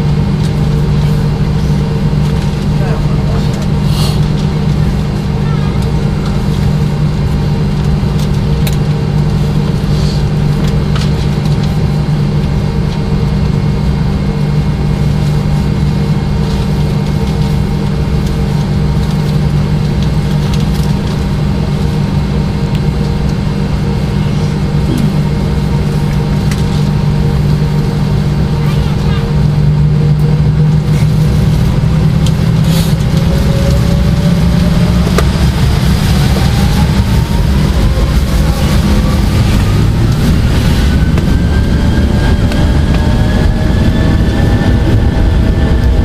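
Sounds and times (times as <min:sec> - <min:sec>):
jet engines idling in cabin: 0:00.0 - 0:46.0.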